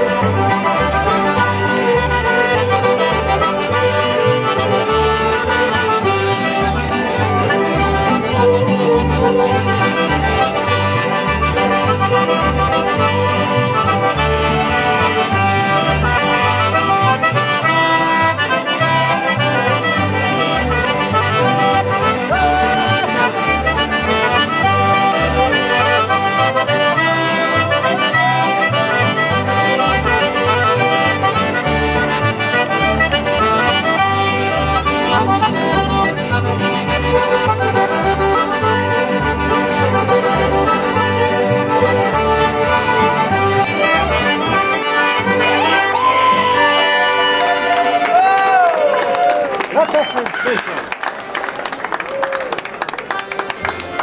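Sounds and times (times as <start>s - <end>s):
plucked upright bass: 0.0s - 47.7s
button accordion: 0.0s - 48.1s, 52.8s - 54.0s
strummed acoustic guitars: 0.0s - 48.1s
fiddles: 0.0s - 50.6s, 51.2s - 54.0s.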